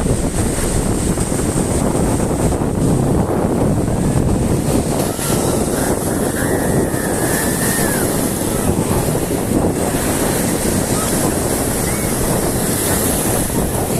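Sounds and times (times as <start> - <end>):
surf breaking on shore: 0.0 - 13.9
wind buffeting microphone: 0.0 - 13.9.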